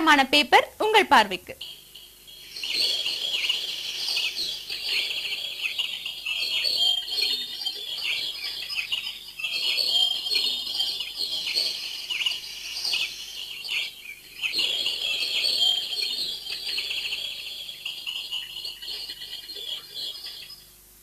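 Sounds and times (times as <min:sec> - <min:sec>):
small birds chirping: 0:01.6 - 0:20.8.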